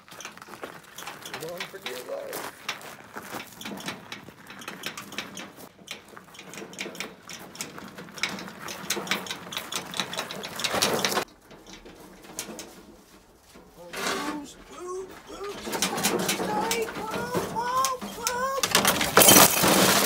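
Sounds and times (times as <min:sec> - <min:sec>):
hard objects clicking and rattling: 0:00.0 - 0:12.9, 0:15.4 - 0:20.0.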